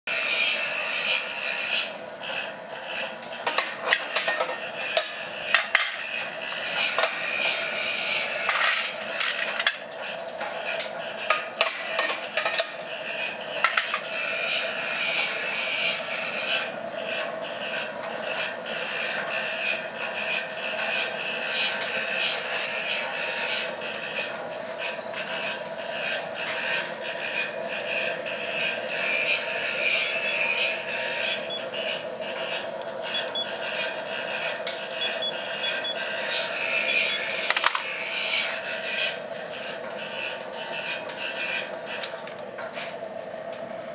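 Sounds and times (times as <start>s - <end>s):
blower fan whirring: 0.0s - 43.9s.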